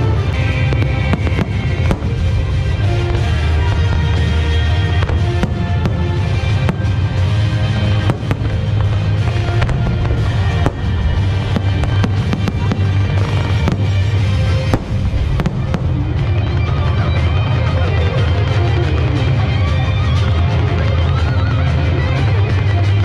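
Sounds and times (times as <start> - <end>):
music playing: 0.0 - 23.0.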